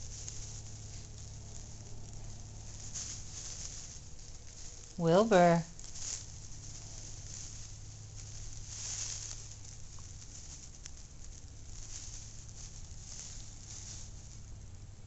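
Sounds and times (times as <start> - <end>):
straw rustling: 0.0 - 15.0.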